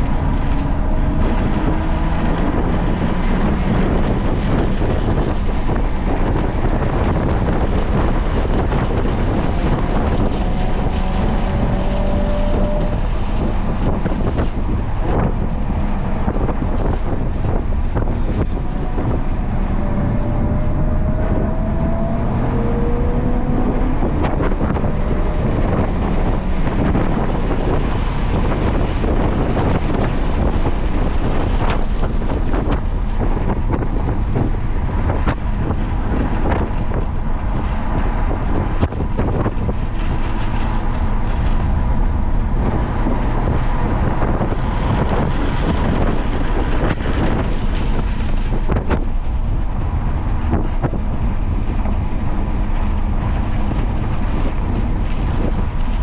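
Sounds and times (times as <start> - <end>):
car engine at speed: 0.0 - 56.0
wind buffeting microphone: 0.0 - 56.0.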